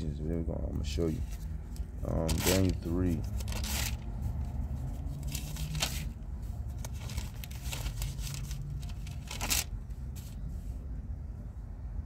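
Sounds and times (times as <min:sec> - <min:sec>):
low hum inside a car: 0:00.0 - 0:12.0
rustling handling noises: 0:00.3 - 0:10.9.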